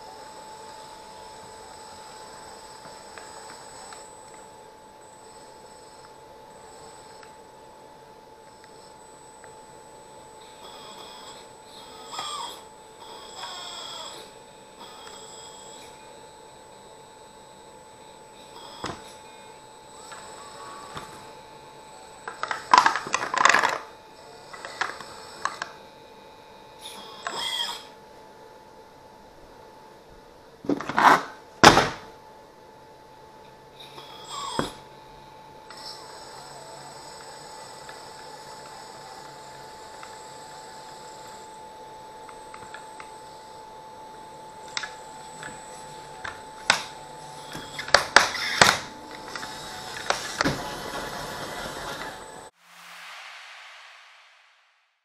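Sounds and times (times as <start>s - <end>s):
warbling whine: 0.0s - 30.7s, 31.4s - 55.0s.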